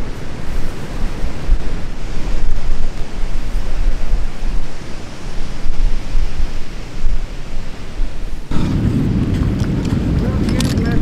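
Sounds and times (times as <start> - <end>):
ocean surf rushing: 0.0 - 11.0
wind gusting on microphone: 0.0 - 11.0.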